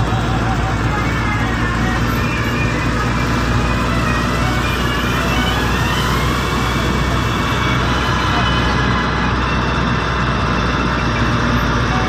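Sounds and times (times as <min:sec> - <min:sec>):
car engine humming: 0:00.0 - 0:12.0
tyre and road noise: 0:00.0 - 0:12.0.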